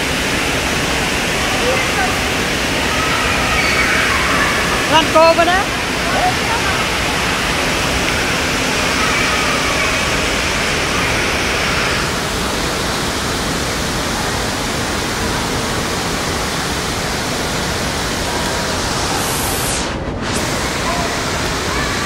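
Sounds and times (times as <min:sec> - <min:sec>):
running and splashing water: 0:00.0 - 0:22.0.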